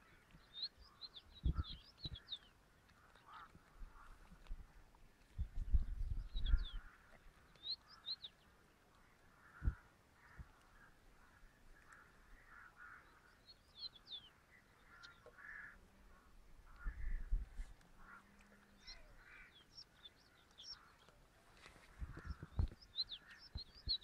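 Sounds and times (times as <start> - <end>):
hoarse bird calls: 0.0 - 4.3, 6.0 - 21.2, 21.9 - 24.0
birds chirping: 0.0 - 24.0.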